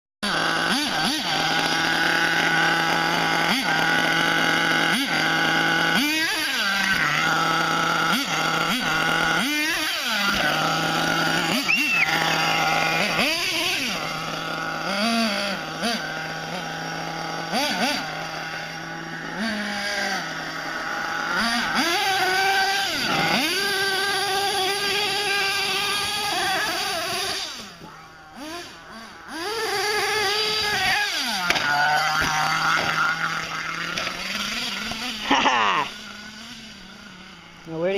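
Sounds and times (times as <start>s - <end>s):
rc truck engine idling and revving: 0.2s - 37.9s.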